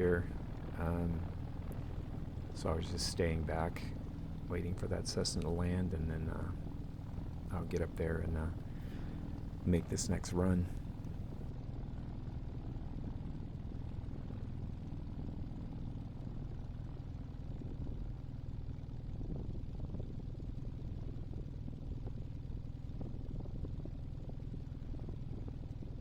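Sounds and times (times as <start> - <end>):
small aircraft engine and propeller: 0.0 - 26.0.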